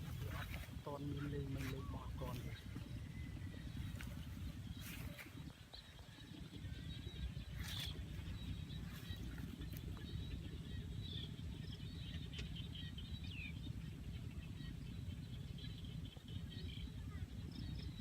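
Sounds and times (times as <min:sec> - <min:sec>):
faint bird chirps: 0:00.0 - 0:18.0
steady low rumble: 0:00.0 - 0:18.0.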